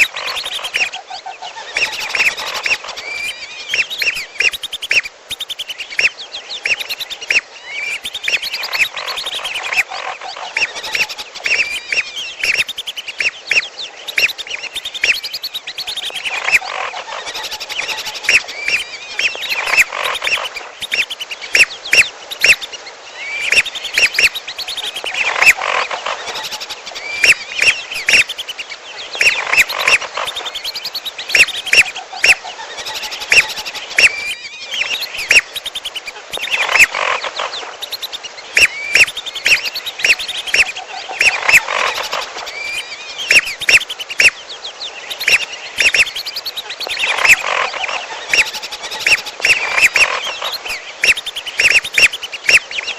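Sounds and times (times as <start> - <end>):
duck whistling calls: 0.0 - 1.0, 1.7 - 22.7, 23.3 - 28.6, 29.2 - 37.1, 37.8 - 44.3, 45.1 - 52.8
bird calls: 0.0 - 52.9.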